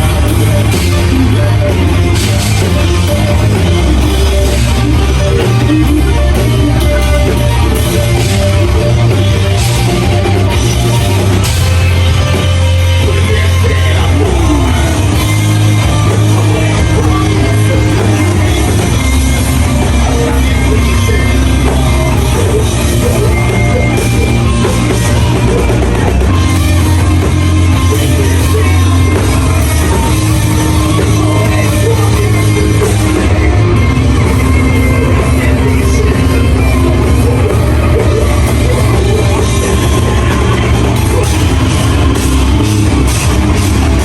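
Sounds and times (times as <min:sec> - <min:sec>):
distorted electric guitars: 0:00.0 - 0:44.0
drum kit: 0:00.0 - 0:44.0.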